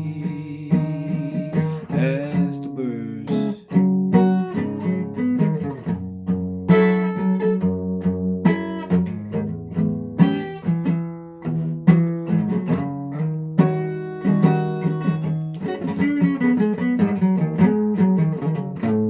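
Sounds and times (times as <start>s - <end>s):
guitar strummed and picked: 0.0s - 19.0s.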